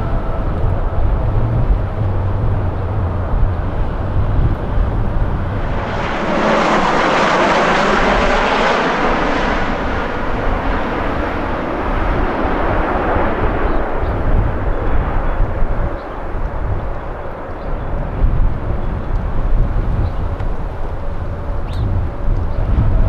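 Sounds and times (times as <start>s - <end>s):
jet aircraft passing overhead: 0.0s - 23.0s
wind buffeting microphone: 0.0s - 23.0s.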